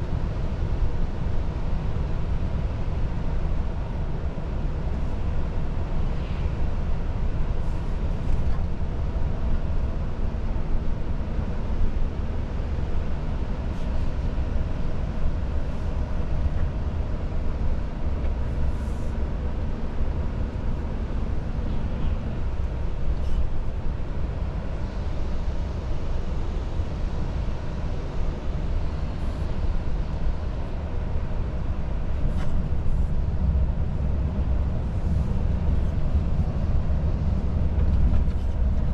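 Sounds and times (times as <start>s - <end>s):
truck engine and tyres rumbling: 0.0s - 38.9s.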